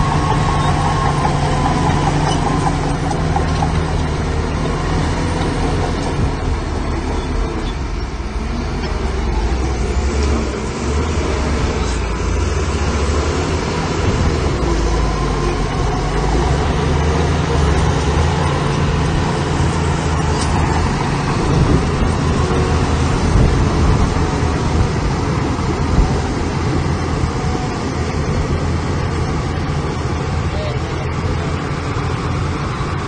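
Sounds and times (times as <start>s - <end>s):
diesel machinery engine rumbling: 0.0s - 33.0s.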